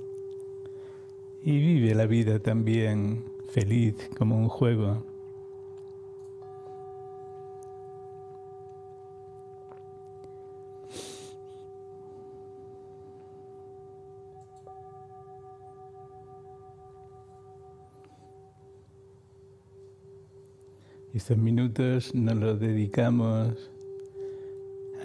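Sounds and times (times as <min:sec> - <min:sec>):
metal singing bowl ringing: 0:00.0 - 0:25.0.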